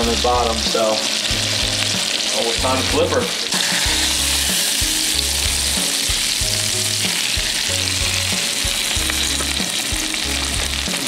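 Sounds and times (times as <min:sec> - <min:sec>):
fish sizzling in a skillet: 0:00.0 - 0:11.0.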